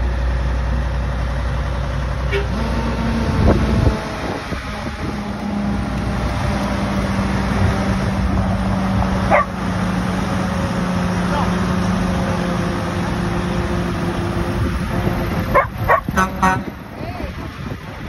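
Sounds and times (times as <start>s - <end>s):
truck diesel engines rumbling: 0.0s - 18.0s.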